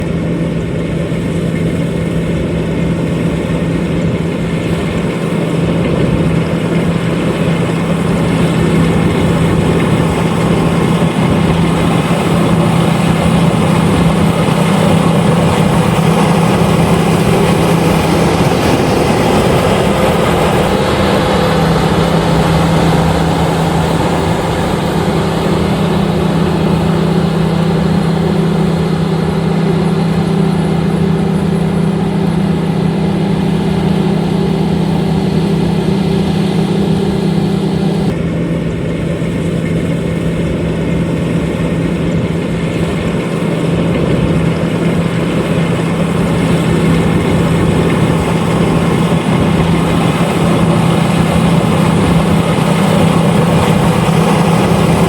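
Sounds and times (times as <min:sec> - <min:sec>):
combine harvester engine drone: 0:00.0 - 0:55.0
machinery noise: 0:00.0 - 0:55.0.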